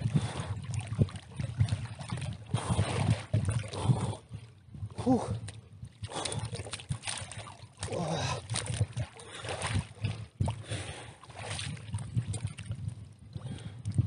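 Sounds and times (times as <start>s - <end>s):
icy water splashing: 0.0s - 14.0s.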